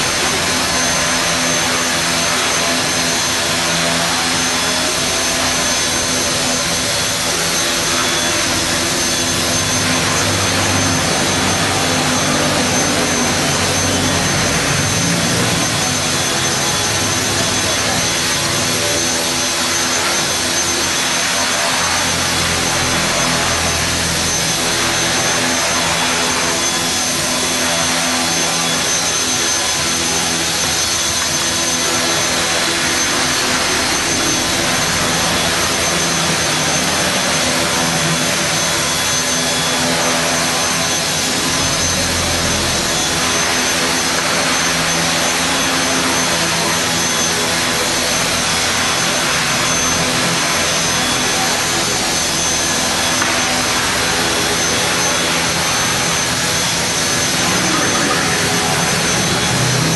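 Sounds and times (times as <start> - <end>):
model helicopter motor whine: 0.0 - 59.9.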